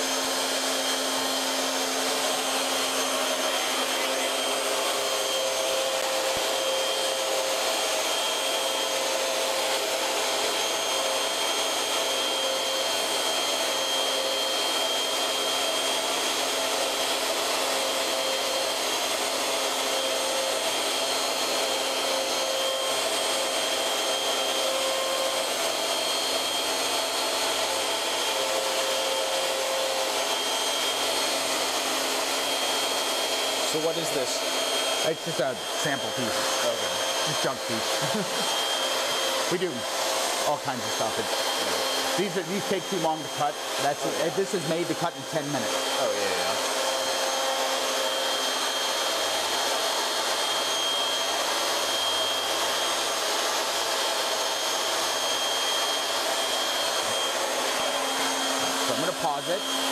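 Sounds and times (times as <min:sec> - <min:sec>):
router spindle whining while cutting: 0:00.0 - 0:59.9.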